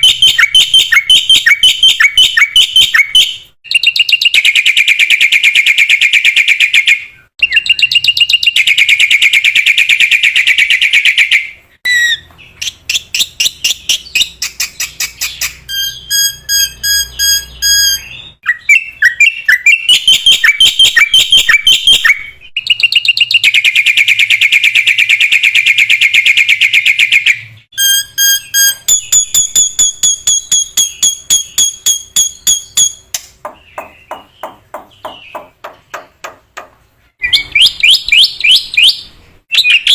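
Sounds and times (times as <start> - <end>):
bird singing: 0.0 - 36.6, 37.2 - 39.9.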